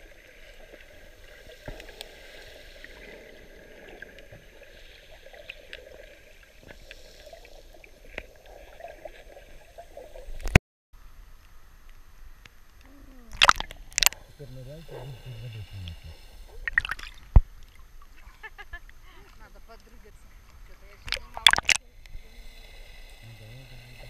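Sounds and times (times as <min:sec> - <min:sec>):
muffled underwater hiss: 0:00.0 - 0:24.0
water at the surface: 0:00.0 - 0:24.0.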